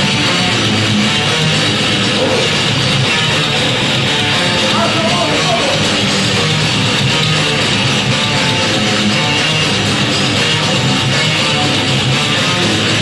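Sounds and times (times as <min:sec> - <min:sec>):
electric guitars: 0:00.0 - 0:13.0
heavy metal band playing: 0:00.0 - 0:13.0.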